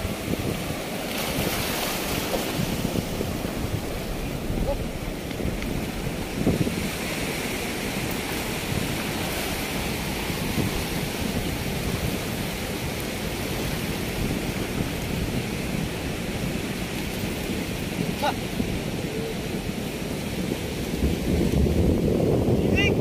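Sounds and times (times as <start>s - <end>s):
ocean surf on beach: 0.0s - 23.0s
wind buffeting microphone: 0.0s - 23.0s.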